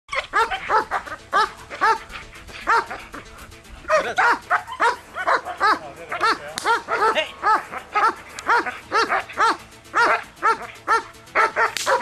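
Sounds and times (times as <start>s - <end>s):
large dog barking: 0.1s - 3.2s, 3.9s - 12.0s.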